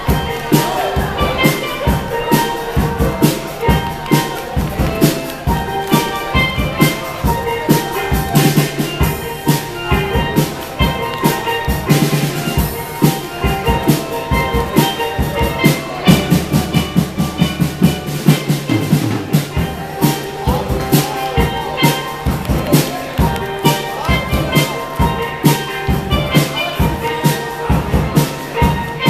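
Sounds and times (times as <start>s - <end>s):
drum kit beat: 0.0s - 29.0s
steel pans melody: 0.0s - 29.0s.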